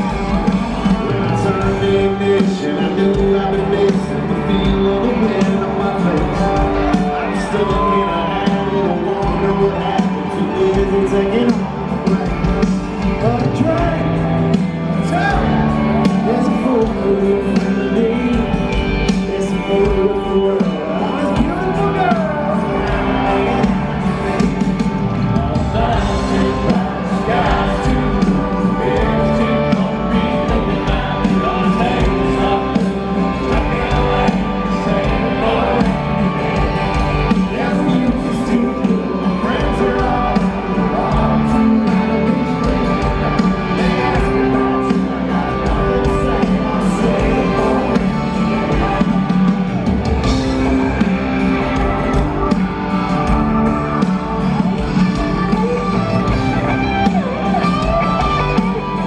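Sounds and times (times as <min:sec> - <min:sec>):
lead vocal singing: 0:00.0 - 0:59.0
live country-rock band: 0:00.0 - 0:59.0.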